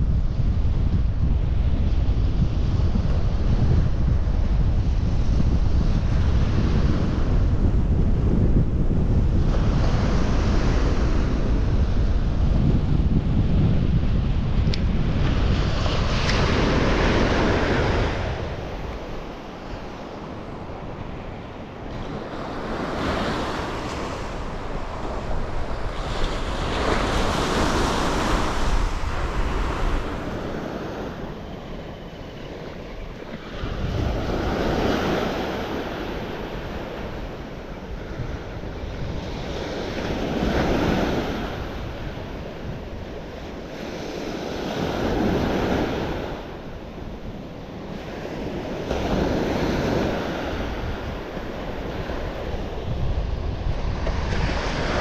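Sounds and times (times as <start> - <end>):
wind buffeting microphone: 0.0 - 55.0
sea waves breaking on beach: 9.0 - 55.0.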